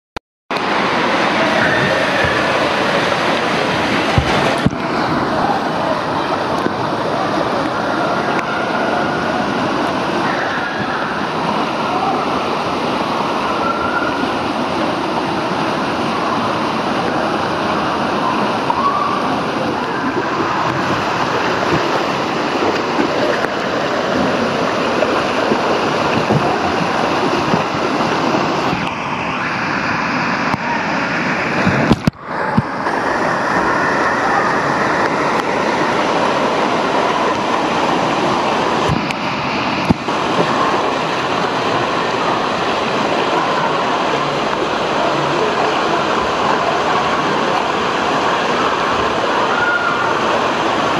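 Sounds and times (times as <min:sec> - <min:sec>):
rushing churning water: 0:00.5 - 0:50.9.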